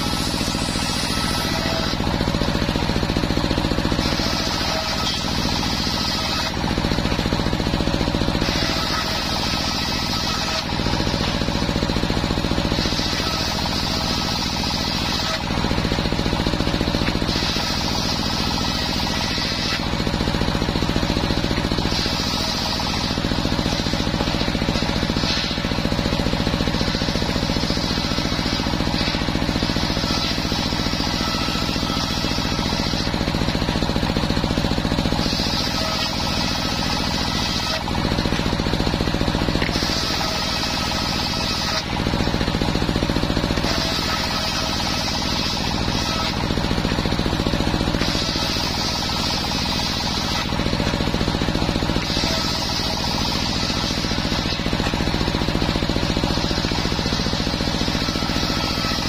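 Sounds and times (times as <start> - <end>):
engine running steadily: 0.0 - 59.0
saw blade ripping wood: 0.0 - 59.0.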